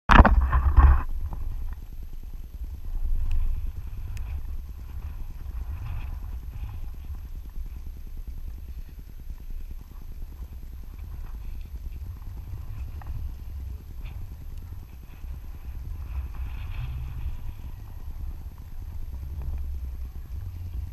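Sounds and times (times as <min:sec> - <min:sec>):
wind buffeting microphone: 0:00.1 - 0:20.9.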